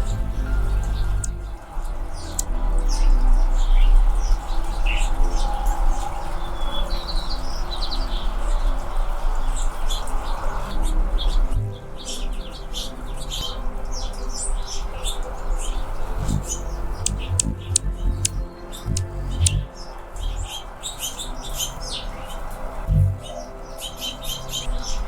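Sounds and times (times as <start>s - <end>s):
hummingbird chirps: 0.0s - 25.0s.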